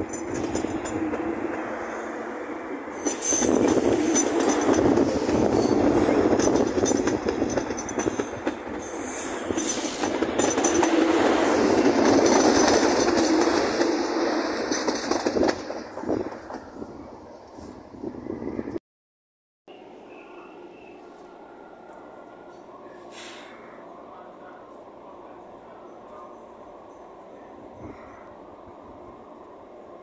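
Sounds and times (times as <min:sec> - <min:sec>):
electric train rumbling past: 0:00.0 - 0:18.8, 0:19.7 - 0:30.0.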